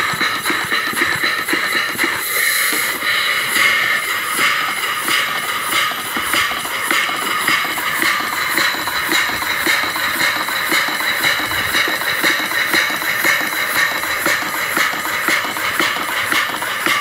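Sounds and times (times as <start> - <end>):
steam engine running on air: 0.0 - 17.0.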